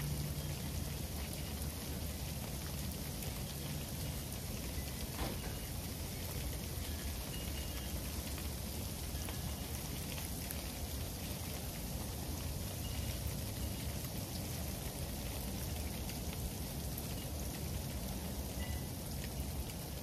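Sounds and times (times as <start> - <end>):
freezing rain pattering: 0.0 - 20.0.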